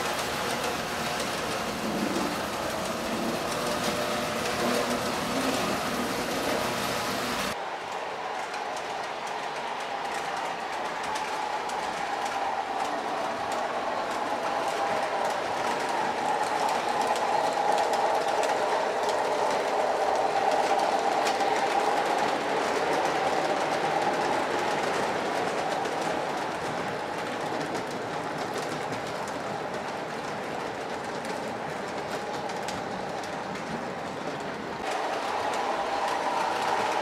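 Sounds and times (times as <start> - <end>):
model train wheels on metal track: 0.0 - 37.0.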